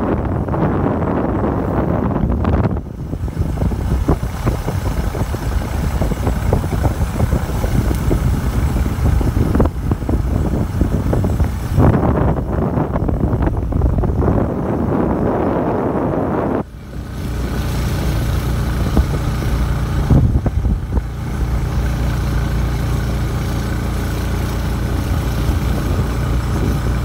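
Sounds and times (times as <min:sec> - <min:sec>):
vehicle low rumble: 0:00.0 - 0:27.0
wind buffeting microphone: 0:00.0 - 0:27.0.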